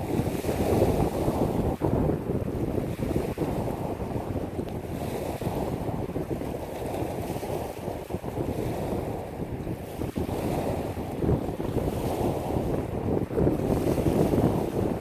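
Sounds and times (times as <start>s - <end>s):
waves breaking on pebble beach: 0.0s - 15.0s
wind buffeting microphone: 0.0s - 15.0s.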